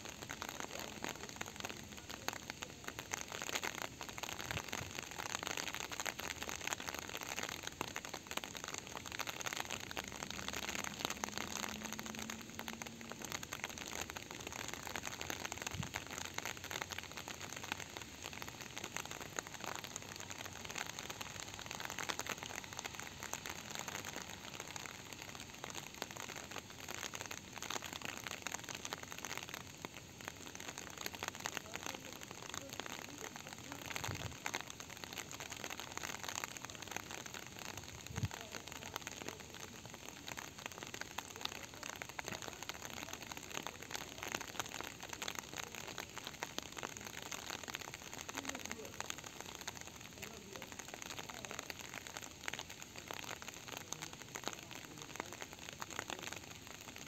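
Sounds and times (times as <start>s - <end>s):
rain falling: 0.0s - 57.0s
raindrops ticking: 0.0s - 57.0s.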